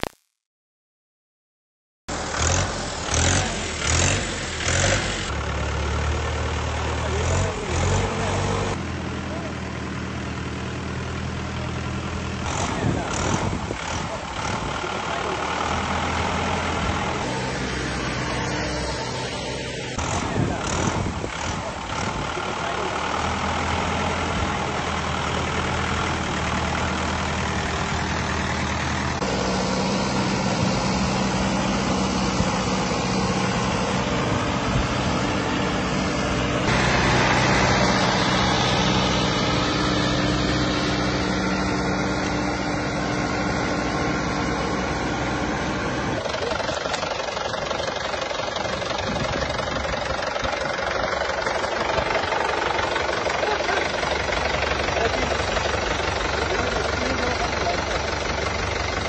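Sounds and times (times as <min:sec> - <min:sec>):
tractor diesel engine running: 0:02.1 - 0:59.0.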